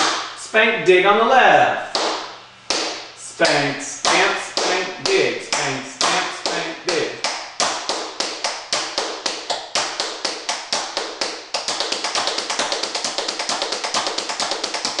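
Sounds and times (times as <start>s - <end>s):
tap shoes on wooden floor: 1.9s - 3.0s, 4.0s - 15.0s.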